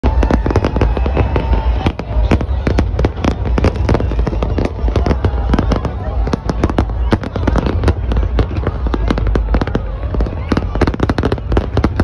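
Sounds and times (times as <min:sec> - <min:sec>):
fireworks exploding: 0:00.0 - 0:12.0.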